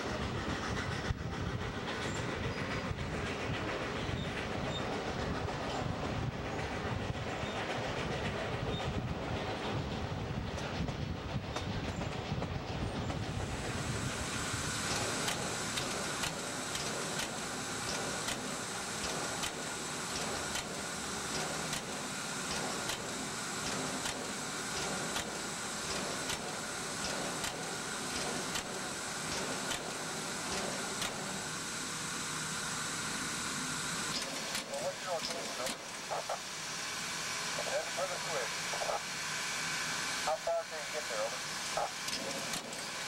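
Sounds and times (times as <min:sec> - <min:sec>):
steady hiss of steam: 0:00.0 - 0:43.0
steam train running on rails: 0:00.0 - 0:43.0.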